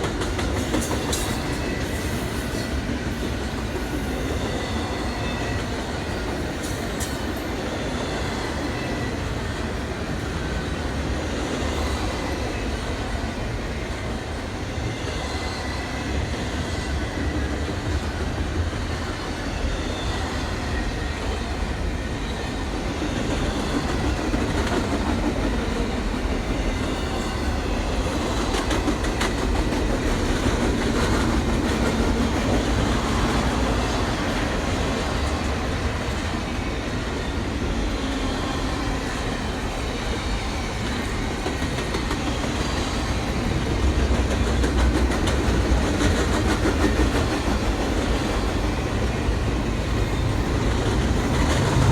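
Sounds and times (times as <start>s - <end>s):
train wheels rumbling and clicking: 0.0s - 51.9s.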